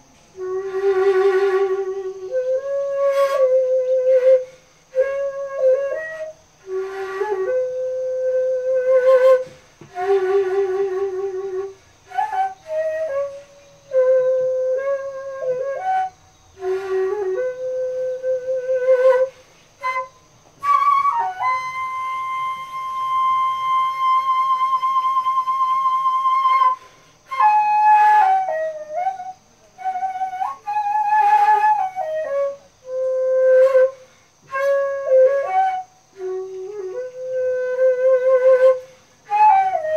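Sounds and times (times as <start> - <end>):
bamboo flute solo: 0.0 - 39.9.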